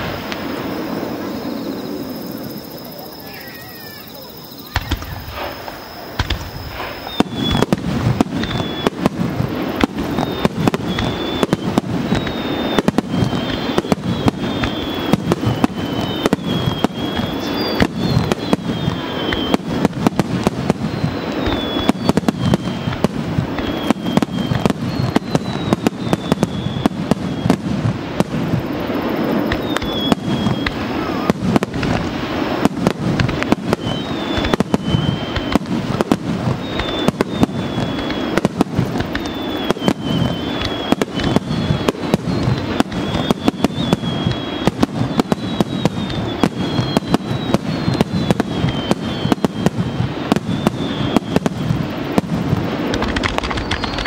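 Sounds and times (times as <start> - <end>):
high falling whistles: 0.0 - 27.6, 28.4 - 32.1, 33.2 - 51.8, 53.3 - 54.0
fireworks bangs and crackles: 0.0 - 54.0.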